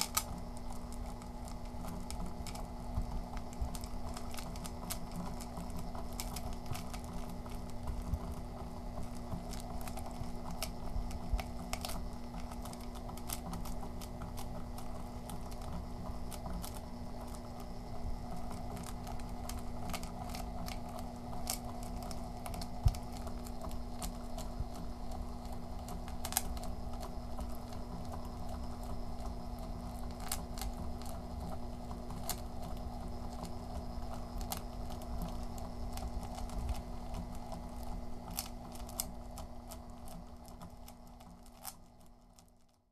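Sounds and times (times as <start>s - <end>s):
motor humming: 0.0s - 42.8s.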